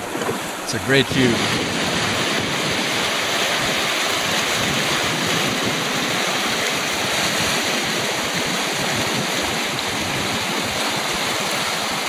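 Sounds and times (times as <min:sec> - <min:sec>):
water rushing past hulls: 0:00.0 - 0:12.0.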